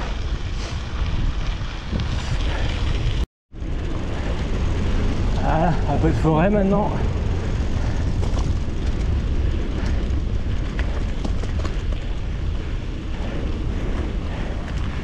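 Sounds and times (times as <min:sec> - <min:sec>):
bike clicks and rattles: 0:00.0 - 0:15.0
wind and tyre rumble: 0:00.0 - 0:15.0.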